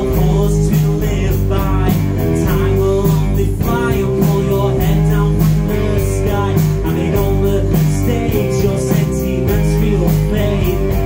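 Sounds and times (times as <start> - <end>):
bass guitar: 0.0 - 11.0
drum kit with cymbals: 0.0 - 11.0
electric guitar: 0.0 - 11.0
person singing: 0.0 - 11.0.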